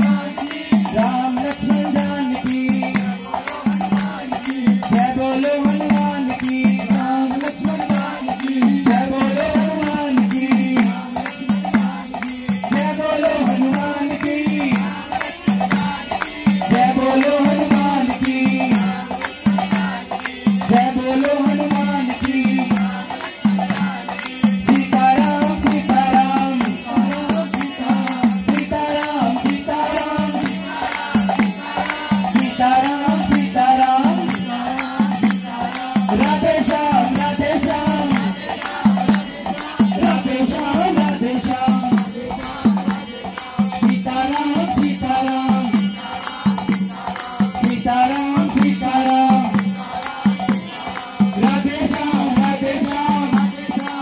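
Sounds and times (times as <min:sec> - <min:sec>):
group singing into microphones: 0:00.0 - 0:54.0
hand drum rhythm: 0:00.0 - 0:54.0
small hand cymbals: 0:00.0 - 0:54.0
hand clapping: 0:00.4 - 0:54.0.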